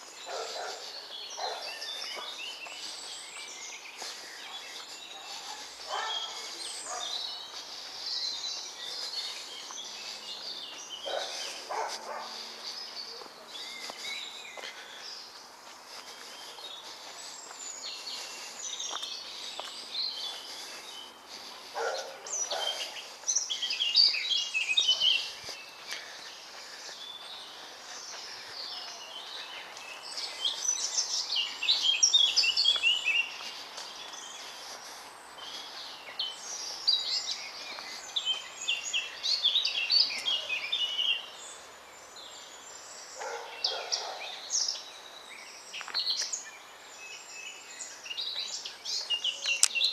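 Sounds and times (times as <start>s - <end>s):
songbirds twittering: 0.0s - 49.9s.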